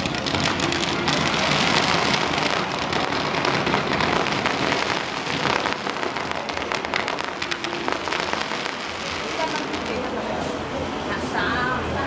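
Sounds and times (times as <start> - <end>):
fireworks crackling: 0.0 - 11.4.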